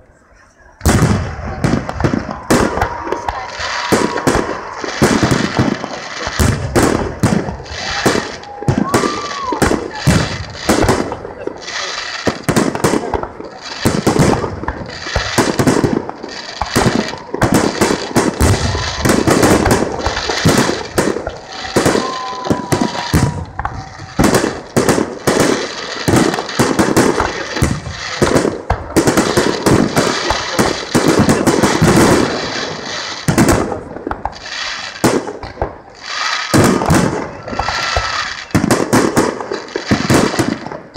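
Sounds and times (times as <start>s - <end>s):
fireworks bursting and crackling: 0.0s - 40.9s
firework whistles: 1.6s - 28.4s, 29.1s - 40.7s.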